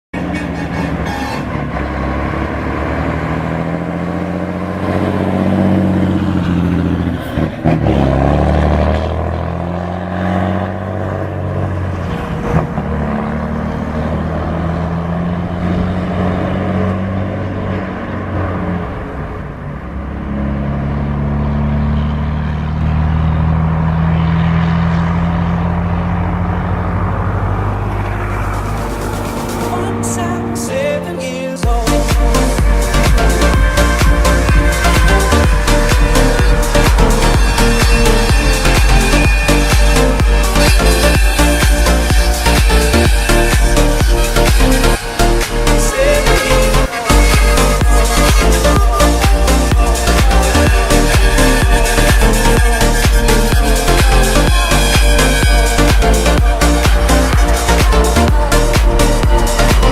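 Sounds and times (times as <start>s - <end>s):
truck diesel engine running hard: 0.0s - 59.9s.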